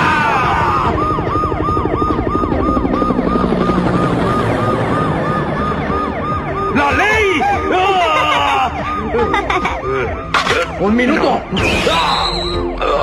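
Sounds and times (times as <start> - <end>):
sirens wailing: 0.0 - 13.0.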